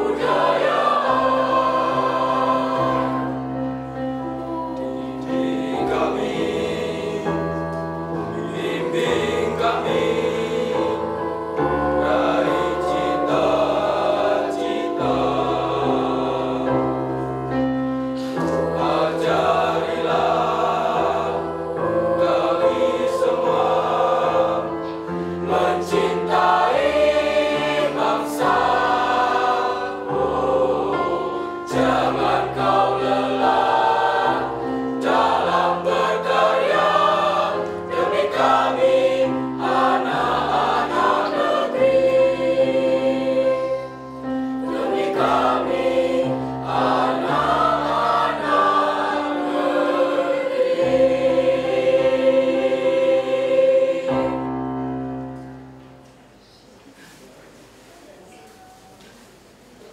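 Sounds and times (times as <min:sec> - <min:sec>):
mixed choir singing in parts: 0:00.0 - 0:56.0.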